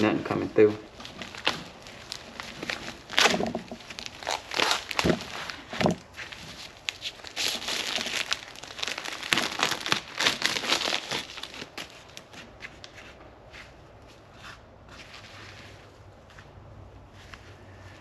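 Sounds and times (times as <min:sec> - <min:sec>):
crinkling and rustling handling: 0:00.0 - 0:18.0.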